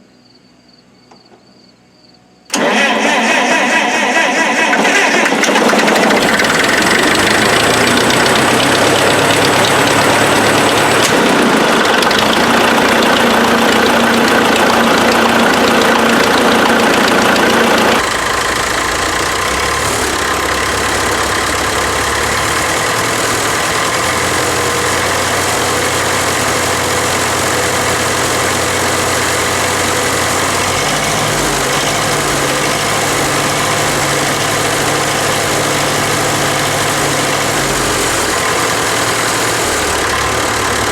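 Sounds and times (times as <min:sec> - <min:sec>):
tractor engine idling: 0:02.5 - 0:40.9.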